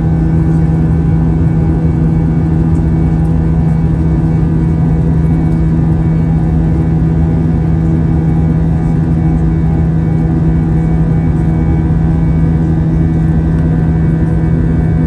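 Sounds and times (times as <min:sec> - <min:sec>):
jet engine drone in cabin: 0:00.0 - 0:15.0.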